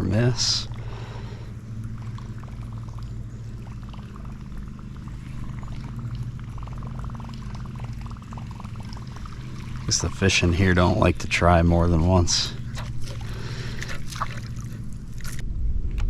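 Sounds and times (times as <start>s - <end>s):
fishing reel cranking: 0.4s - 15.4s.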